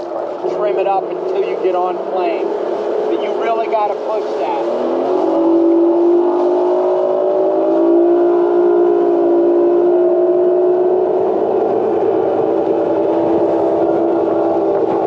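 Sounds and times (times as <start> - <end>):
outboard motor running hard: 0.0 - 15.0
wind and water rushing: 0.0 - 15.0.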